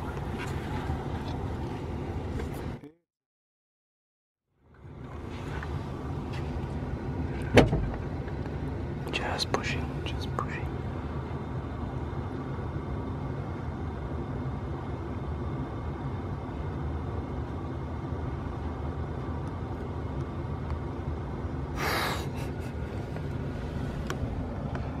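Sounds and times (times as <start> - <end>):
engine low rumble: 0.0 - 3.0, 4.5 - 25.0.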